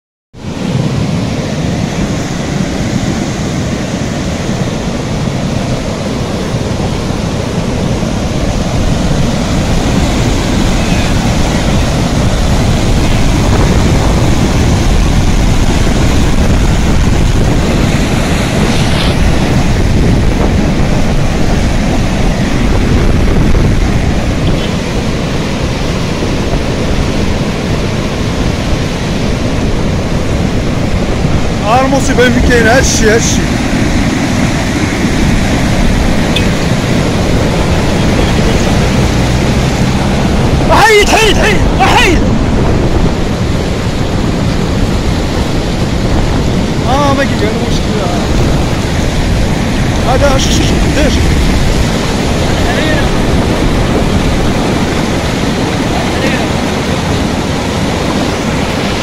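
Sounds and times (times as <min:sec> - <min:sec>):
flood water rushing: 0:00.4 - 0:59.0.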